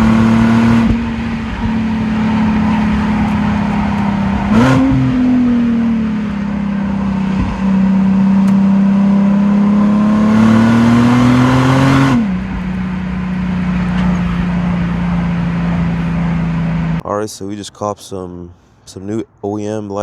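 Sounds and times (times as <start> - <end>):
car engine and exhaust: 0.0 - 19.0.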